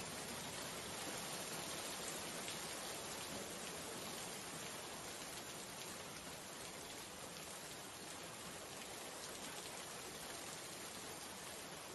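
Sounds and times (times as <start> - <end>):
steady rain: 0.0 - 11.9.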